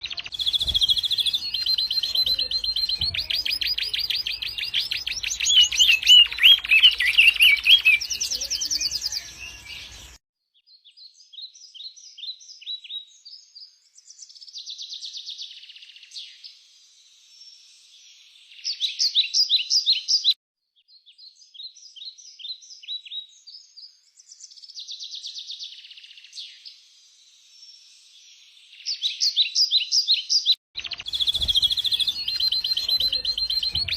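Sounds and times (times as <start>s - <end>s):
songbirds trilling and chirping: 0.0s - 33.9s.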